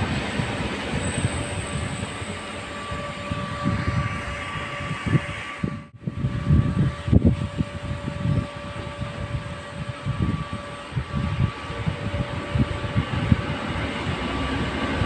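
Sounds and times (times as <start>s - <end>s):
electric train rumble and hiss: 0.0s - 15.0s
steady hum: 0.0s - 15.0s
wind rumbling on microphone: 0.0s - 15.0s.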